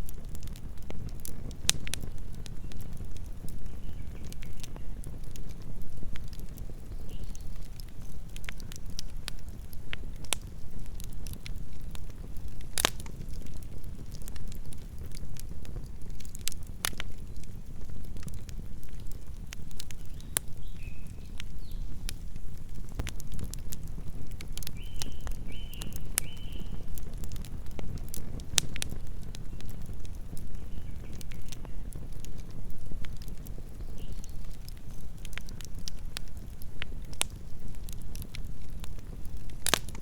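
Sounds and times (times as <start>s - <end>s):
burning wood crackling and popping: 0.0s - 40.0s
campfire flames rumbling: 0.0s - 40.0s.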